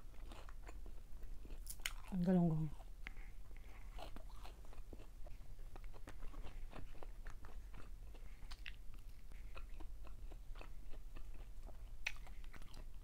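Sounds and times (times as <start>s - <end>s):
chewing and crunching fried fish: 0.0s - 13.0s.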